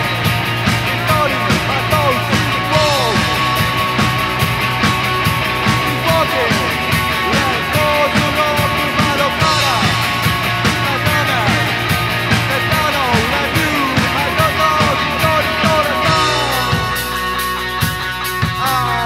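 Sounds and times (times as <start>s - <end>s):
electric guitar: 0.0s - 19.0s
rock band playing live: 0.0s - 19.0s.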